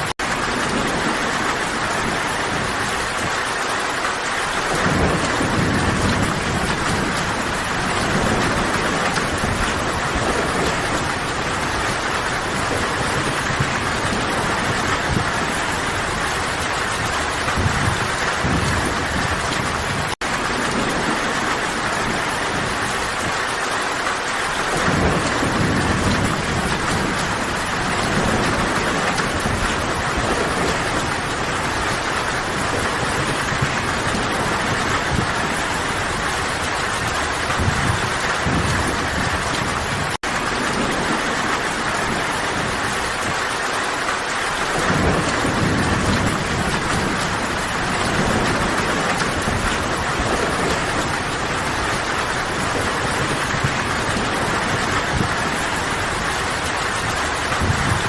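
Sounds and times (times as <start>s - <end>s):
heavy rain: 0.0s - 58.0s
rolling thunder: 0.0s - 58.0s.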